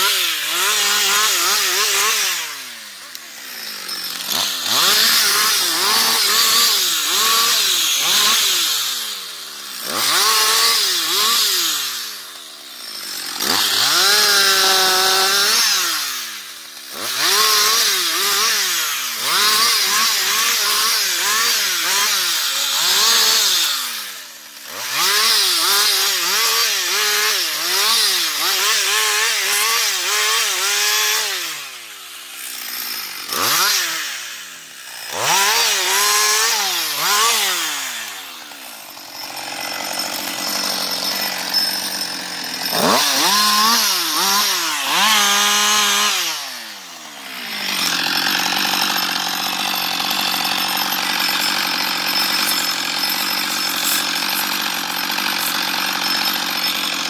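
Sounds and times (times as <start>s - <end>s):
chainsaw cutting branches: 0.0s - 57.0s.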